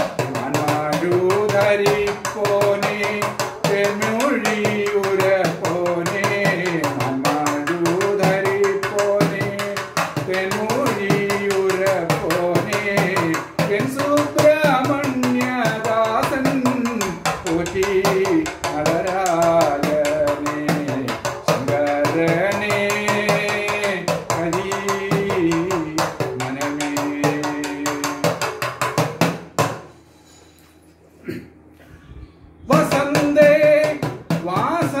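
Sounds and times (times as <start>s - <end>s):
man singing long sliding notes: 0.0s - 28.4s.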